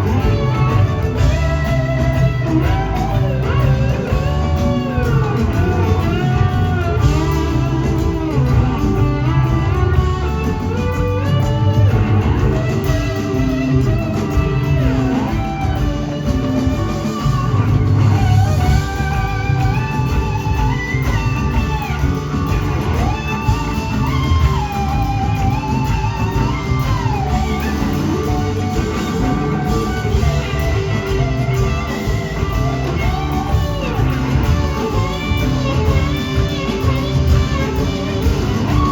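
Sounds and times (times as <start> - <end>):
blues rock band jamming: 0.0 - 38.9
electric guitar solo: 0.0 - 38.9.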